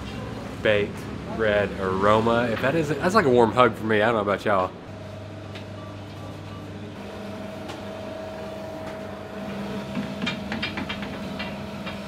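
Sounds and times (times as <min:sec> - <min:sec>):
bakery machinery humming: 0:00.0 - 0:12.0.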